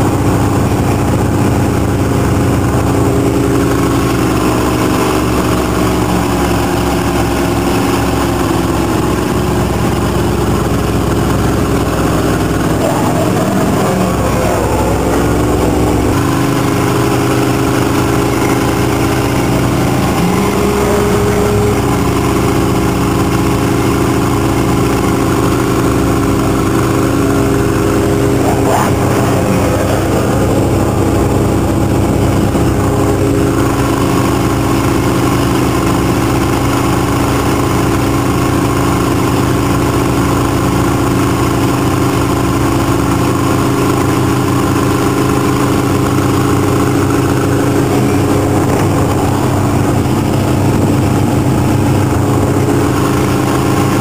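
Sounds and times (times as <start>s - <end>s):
powerboat engine droning: 0.0s - 54.0s
rush of boat wake: 0.0s - 54.0s.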